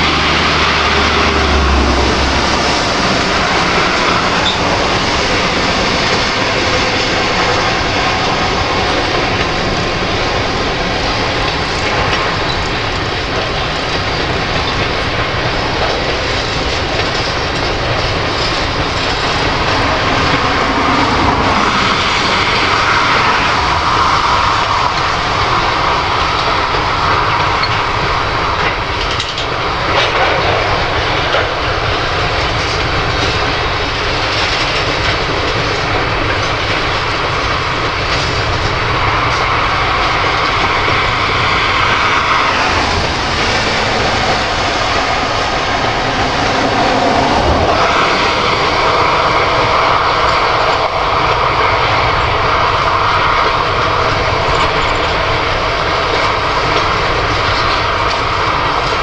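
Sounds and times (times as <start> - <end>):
freight train wheels rumbling: 0.0 - 59.0
train clicks and knocks: 0.0 - 59.0.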